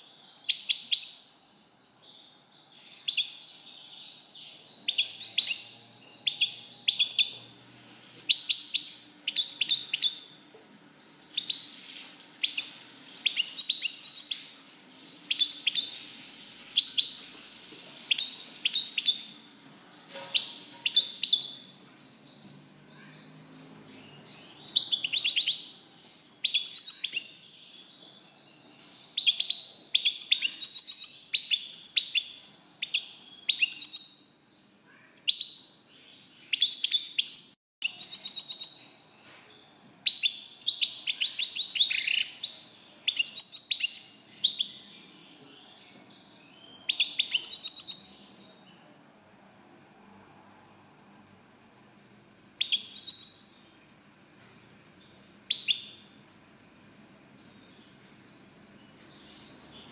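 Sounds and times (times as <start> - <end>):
bird twittering and trilling: 0.0 - 14.6, 15.2 - 48.8, 52.6 - 53.7, 54.9 - 56.2.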